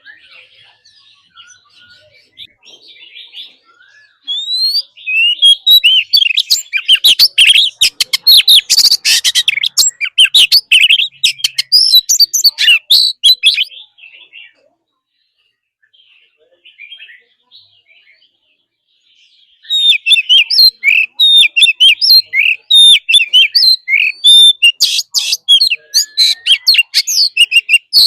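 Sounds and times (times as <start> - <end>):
songbird singing and chattering: 0.0 - 28.0.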